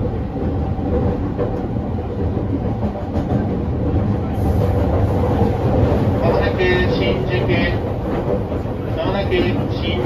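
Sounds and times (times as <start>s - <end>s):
rail-joint clicks: 0.0s - 10.0s
train wheels rumbling on rail: 0.0s - 10.0s.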